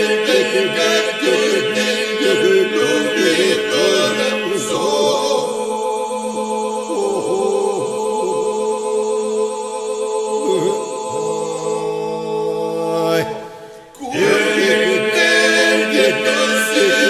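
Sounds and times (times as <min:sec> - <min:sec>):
men singing a cappella: 0:00.0 - 0:17.0.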